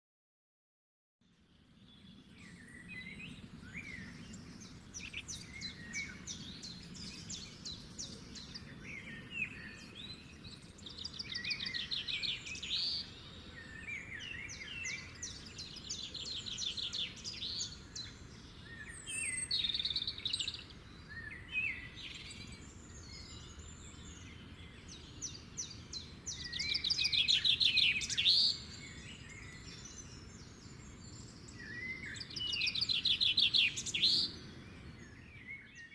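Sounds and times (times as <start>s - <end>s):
birds singing and chirping: 1.5s - 35.9s.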